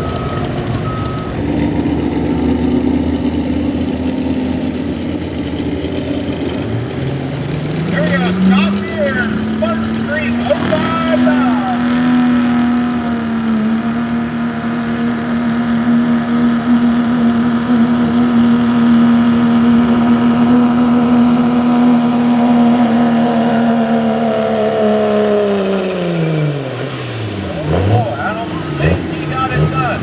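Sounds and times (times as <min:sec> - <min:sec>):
truck engine at high revs: 0:00.0 - 0:30.0.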